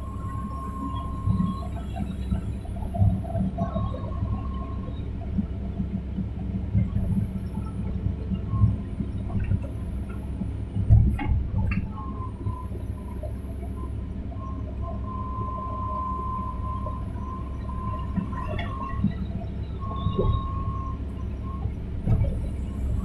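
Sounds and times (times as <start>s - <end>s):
excavator diesel engine rumbling: 0.0s - 23.0s
high-pitched engine whine: 0.0s - 23.0s.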